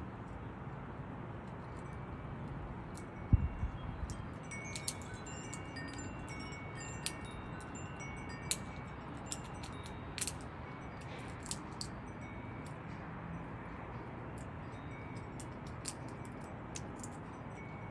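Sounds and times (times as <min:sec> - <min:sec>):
wind chimes ringing: 0:01.6 - 0:17.9.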